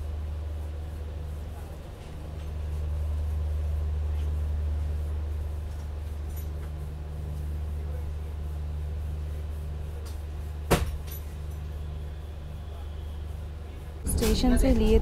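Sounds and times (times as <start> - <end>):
train coach low hum: 0.0 - 15.0.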